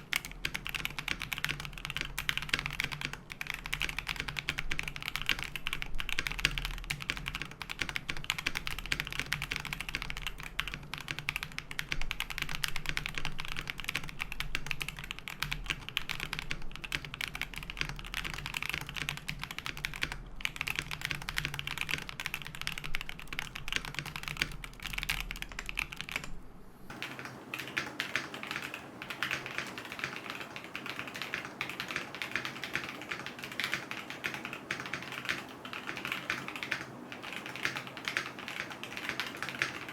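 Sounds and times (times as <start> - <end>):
fast mechanical keyboard typing: 0.0 - 39.9
low electrical hum: 0.0 - 39.9.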